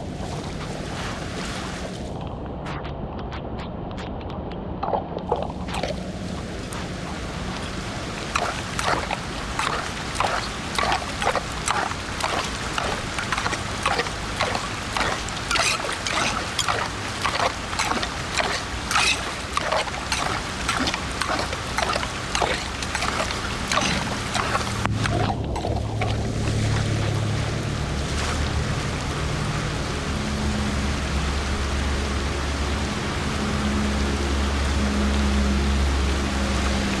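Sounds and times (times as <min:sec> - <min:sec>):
floodwater splashing at a drain: 0:00.0 - 0:37.0
water rushing: 0:00.0 - 0:37.0.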